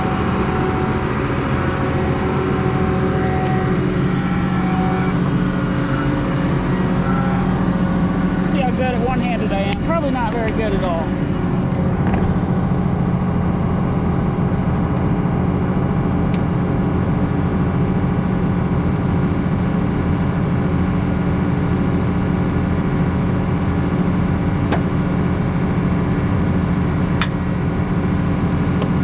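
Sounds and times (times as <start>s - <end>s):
farm vehicle engine running: 0.0s - 29.0s.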